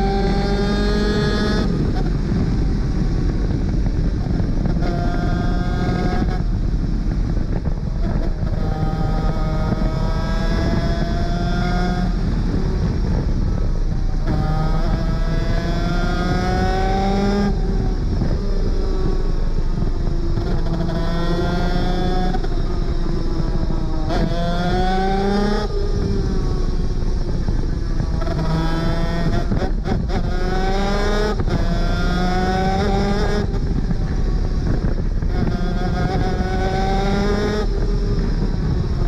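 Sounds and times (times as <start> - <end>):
rush of noise: 0.0 - 39.0
two-stroke engine accelerating: 0.0 - 39.0.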